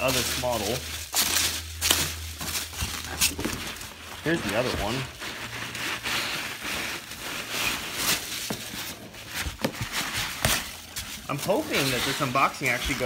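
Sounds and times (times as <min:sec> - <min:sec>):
packing peanuts rustling: 0:00.0 - 0:13.0.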